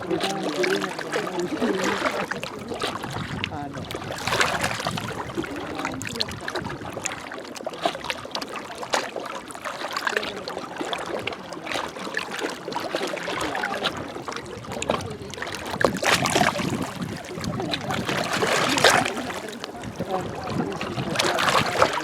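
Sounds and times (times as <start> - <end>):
waves lapping on rocky shore: 0.0 - 22.0.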